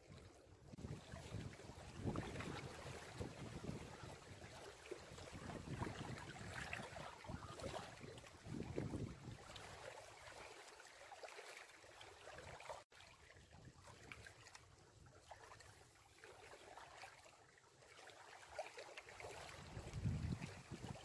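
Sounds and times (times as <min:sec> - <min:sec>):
small waves lapping on rocks: 0:00.0 - 0:21.0.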